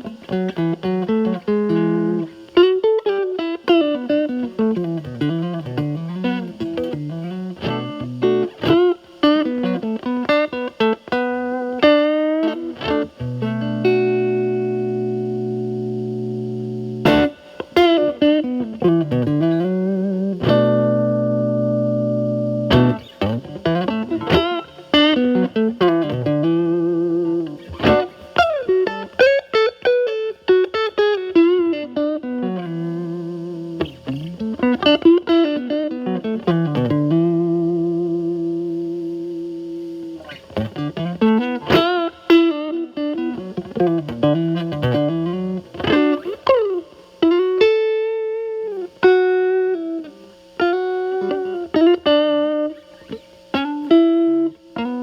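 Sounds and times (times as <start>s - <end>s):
distorted electric guitar blues lead: 0.0s - 55.0s.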